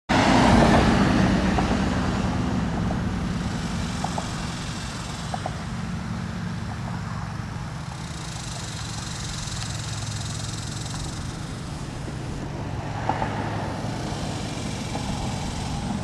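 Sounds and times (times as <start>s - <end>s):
rush of noise: 0.1s - 16.0s
vehicle engine humming: 0.1s - 16.0s.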